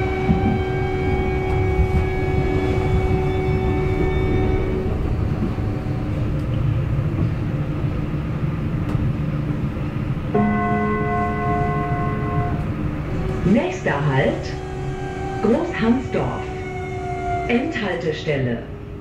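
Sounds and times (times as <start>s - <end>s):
wheels rumbling on track: 0.0s - 19.0s.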